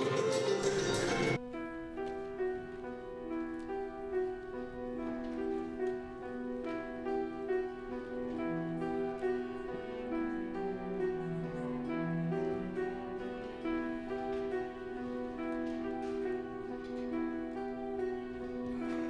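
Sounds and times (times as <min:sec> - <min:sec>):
slow quiet piano: 0:00.0 - 0:19.0.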